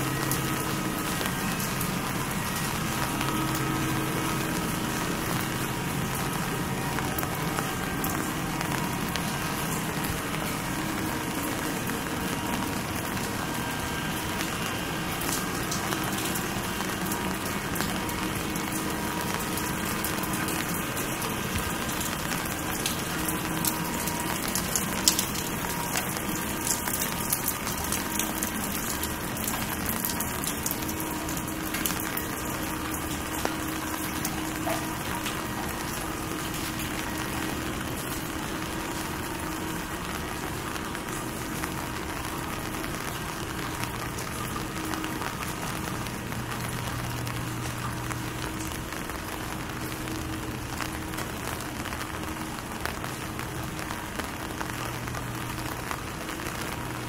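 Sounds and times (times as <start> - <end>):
rain on a street: 0.0 - 57.0
raindrop clicks: 0.1 - 57.0.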